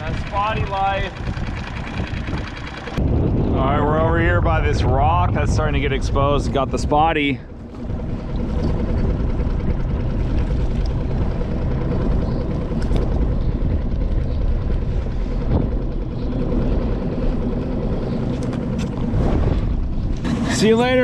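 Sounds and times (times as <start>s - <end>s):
faint steady drone: 0.0s - 21.0s
wind buffeting microphone: 0.0s - 21.0s.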